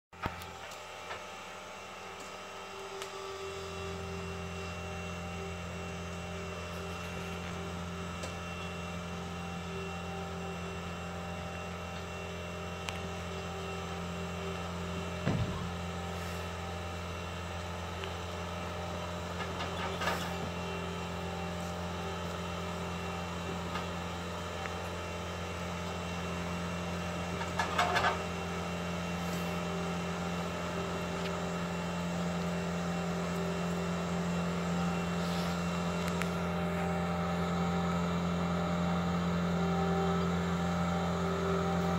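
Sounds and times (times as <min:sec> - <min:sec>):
vehicle engine idling: 0:00.4 - 0:41.9.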